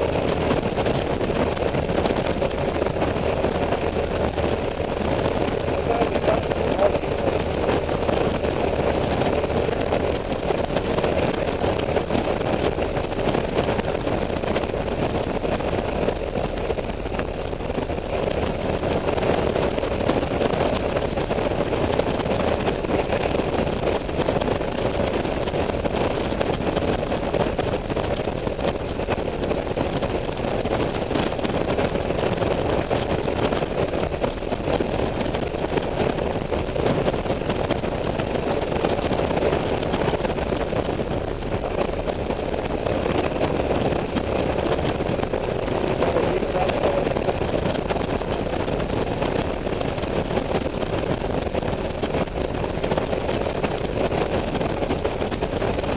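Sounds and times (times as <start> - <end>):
scooter engine drone: 0.0 - 55.9
wind noise: 0.0 - 55.9.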